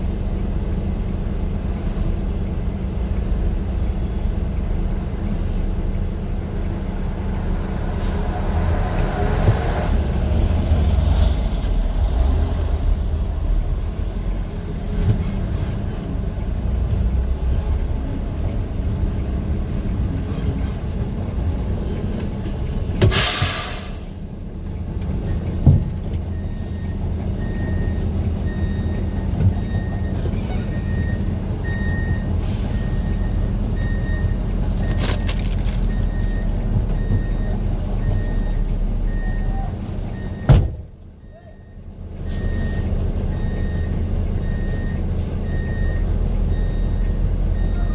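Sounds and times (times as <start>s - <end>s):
heavy vehicle engine rumbling: 0.0s - 47.9s.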